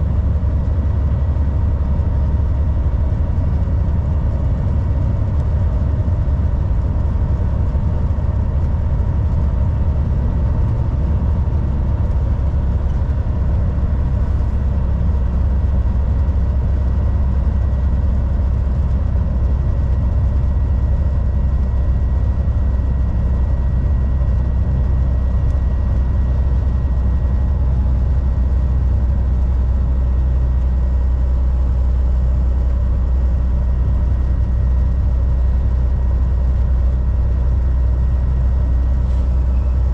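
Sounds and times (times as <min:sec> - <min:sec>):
faint steady whine: 0:00.0 - 0:39.9
truck diesel engine droning: 0:00.0 - 0:39.9.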